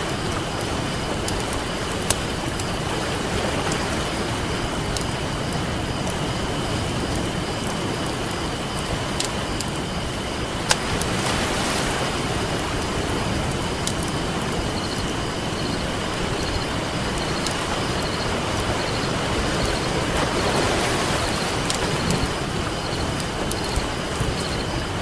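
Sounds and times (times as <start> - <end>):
campfire crackling: 0.0 - 25.0
ocean surf washing: 0.0 - 25.0.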